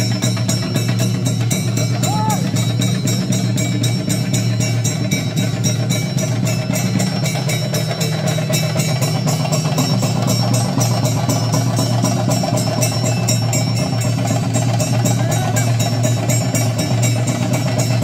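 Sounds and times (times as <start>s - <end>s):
fast drumming: 0.0s - 18.0s
hand cymbals striking: 0.0s - 18.0s.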